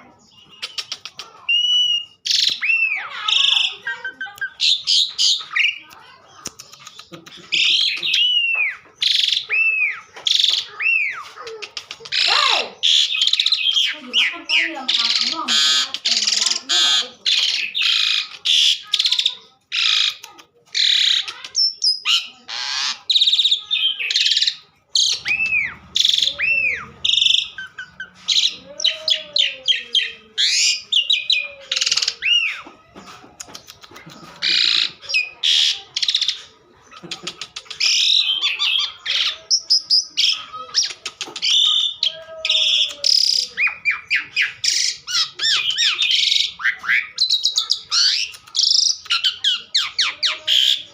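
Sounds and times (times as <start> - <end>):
starling singing: 0.0 - 50.9.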